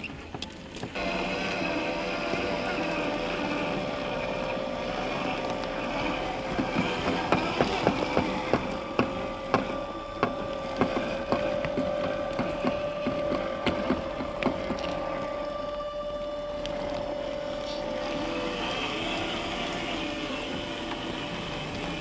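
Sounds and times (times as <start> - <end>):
electric motor whining: 0.7 - 22.0.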